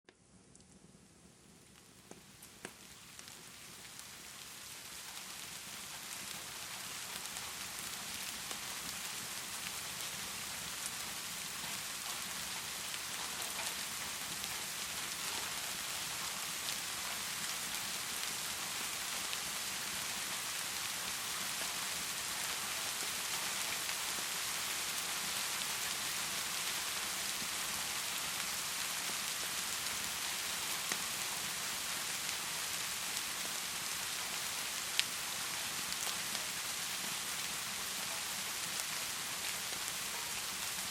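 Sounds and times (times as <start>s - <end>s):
heavy rain pouring: 2.9s - 40.9s.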